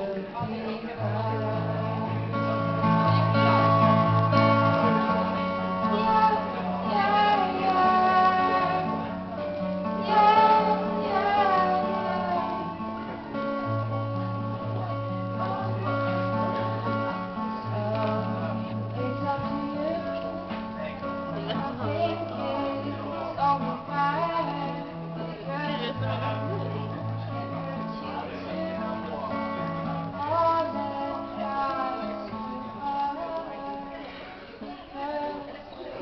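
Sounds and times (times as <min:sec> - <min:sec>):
guitar playing: 0:00.0 - 0:36.0
person singing wordless notes: 0:00.0 - 0:36.0
bass line: 0:01.0 - 0:31.5.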